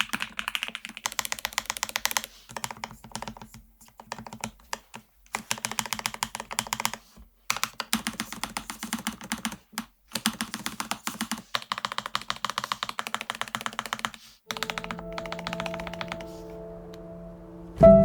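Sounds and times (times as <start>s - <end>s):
fast typing on mechanical keyboard: 0.0s - 16.2s.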